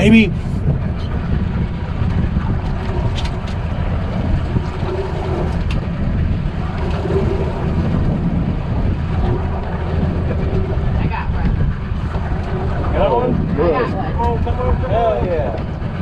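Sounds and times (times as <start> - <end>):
boat engine rumbling: 0.0 - 16.0
wind on microphone: 0.0 - 16.0.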